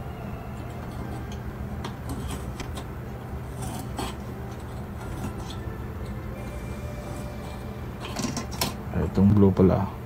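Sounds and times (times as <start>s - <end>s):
low hum: 0.0s - 10.0s
wires scraping through metal conduit: 0.5s - 8.8s.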